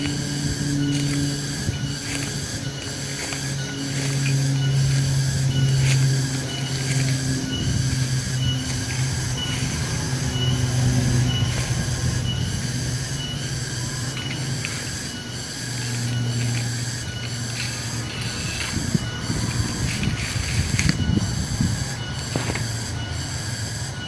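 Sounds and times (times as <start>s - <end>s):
chorus of insects pulsing: 0.0s - 24.0s
steady low hum: 0.0s - 24.0s.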